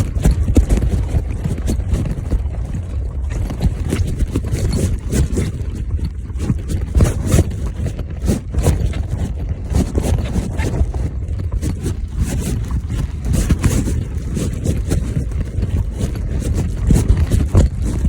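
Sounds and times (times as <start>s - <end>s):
bicycle clicks and scrapes: 0.0s - 18.0s
wind buffeting microphone: 0.0s - 18.0s.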